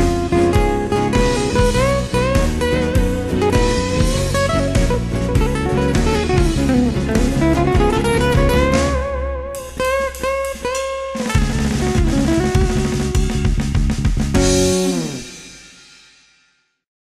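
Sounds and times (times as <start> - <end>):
blues guitar lead: 0.0 - 15.6
drum and bass backing: 0.0 - 16.0.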